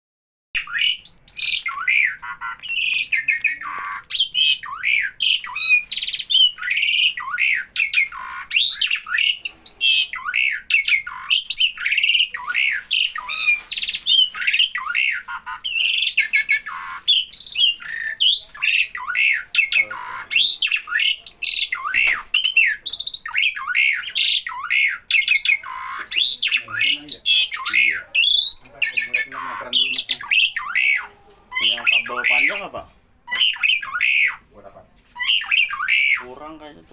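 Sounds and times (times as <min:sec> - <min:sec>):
starling calling: 0:00.6 - 0:36.9.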